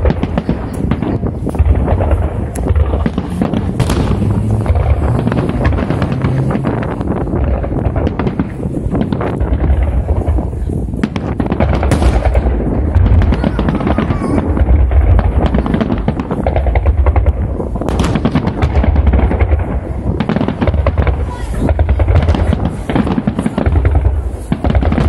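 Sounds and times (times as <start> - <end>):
fireworks booms and crackles: 0.0 - 25.0.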